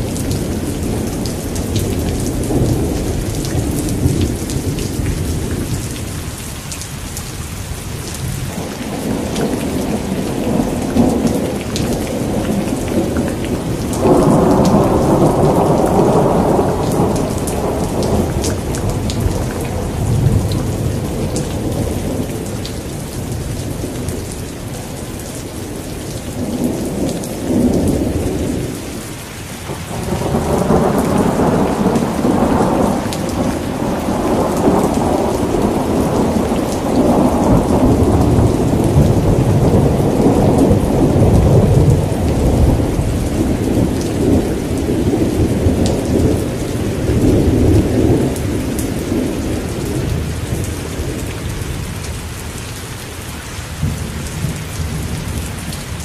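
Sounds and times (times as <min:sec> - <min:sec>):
rolling thunder: 0:00.0 - 0:06.3, 0:08.2 - 0:52.1, 0:53.8 - 0:56.0
steady rain patter: 0:00.0 - 0:56.0.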